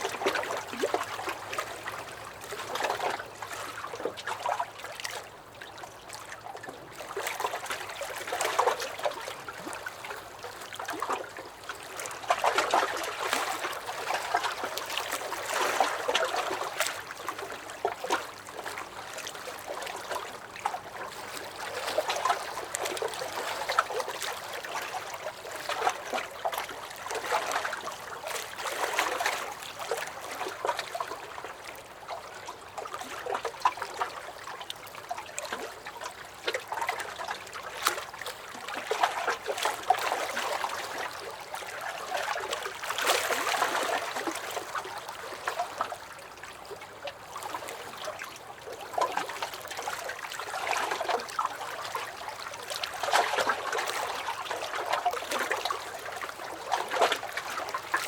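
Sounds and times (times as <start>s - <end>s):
waves lapping against a dock: 0.0s - 58.0s.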